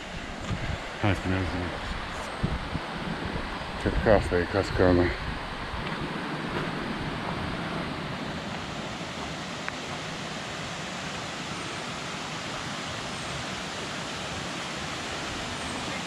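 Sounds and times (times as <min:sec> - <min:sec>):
water rushing down a cascade: 0:00.0 - 0:16.0.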